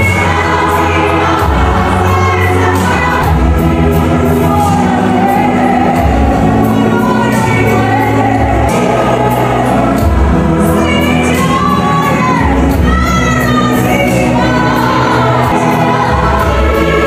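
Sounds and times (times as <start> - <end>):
congregation singing: 0.0 - 17.0
keyboard-led gospel music: 0.0 - 17.0.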